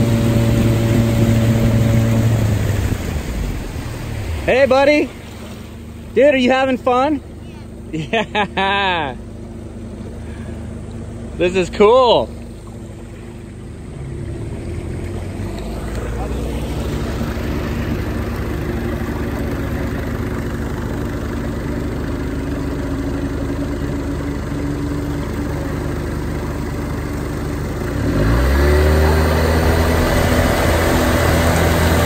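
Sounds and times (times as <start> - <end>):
boat motor running: 0.0 - 32.0
water rushing past boat: 0.0 - 32.0.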